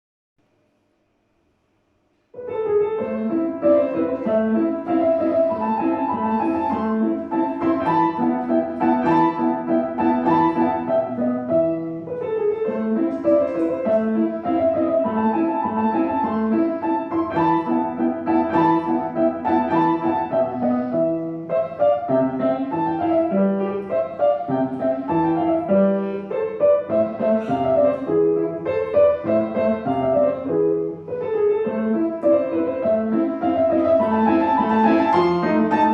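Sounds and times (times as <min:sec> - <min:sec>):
solo classical piano: 0:02.1 - 0:35.9.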